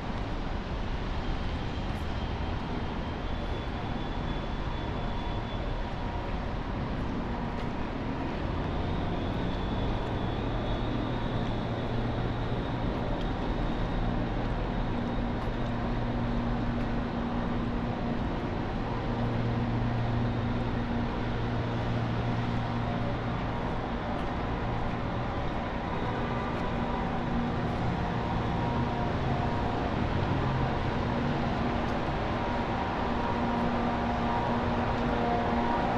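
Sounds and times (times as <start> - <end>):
hiss of traffic in rain: 0.0 - 35.9.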